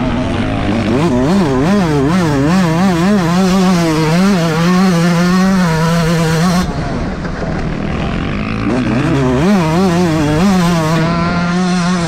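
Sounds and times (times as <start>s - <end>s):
motocross engine at high revs: 0.0s - 12.0s.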